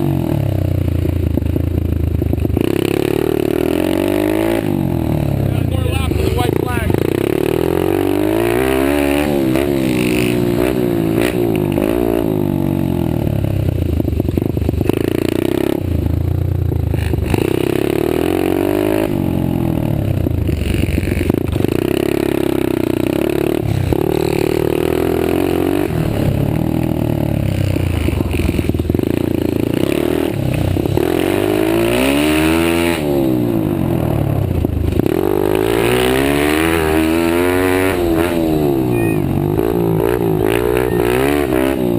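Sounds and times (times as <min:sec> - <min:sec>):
pit bike engines revving: 0:00.0 - 0:41.9.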